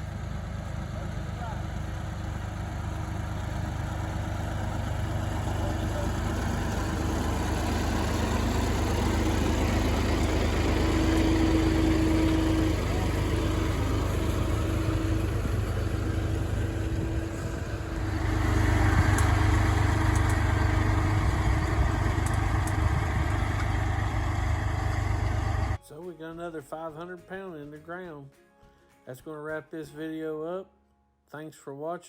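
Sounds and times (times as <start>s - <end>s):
tractor engine running: 0.0s - 25.8s.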